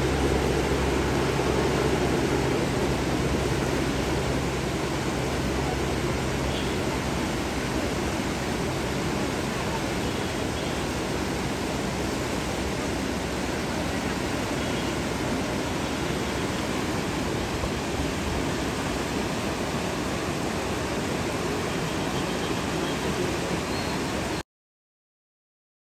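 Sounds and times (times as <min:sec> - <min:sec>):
flooded river rushing: 0:00.0 - 0:24.4.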